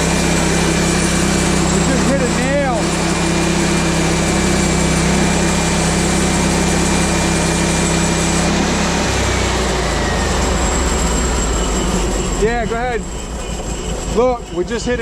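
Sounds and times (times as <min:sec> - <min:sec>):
gas engine running: 0:00.0 - 0:15.0
high blade whine: 0:00.0 - 0:15.0.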